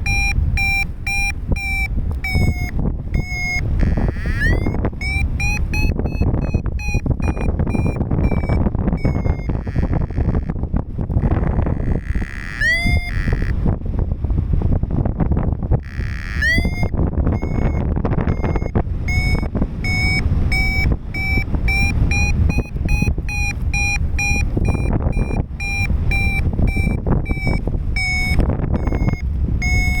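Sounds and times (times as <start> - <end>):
variometer beeping: 0.0 - 13.8, 15.3 - 30.0
wind noise on microphone: 0.0 - 30.0.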